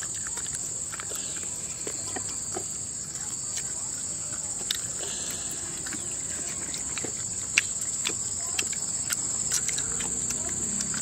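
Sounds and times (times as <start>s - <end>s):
hands tearing and eating chicken: 0.0s - 11.0s
insect chorus: 0.0s - 11.0s.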